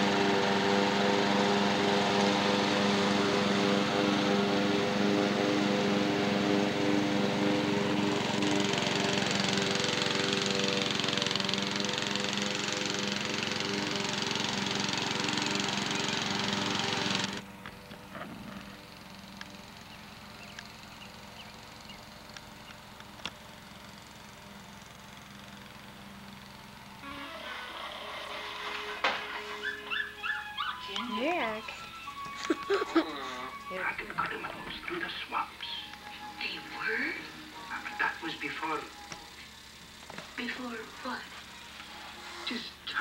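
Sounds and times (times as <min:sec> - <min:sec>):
riding lawn mower engine running: 0:00.0 - 0:43.0.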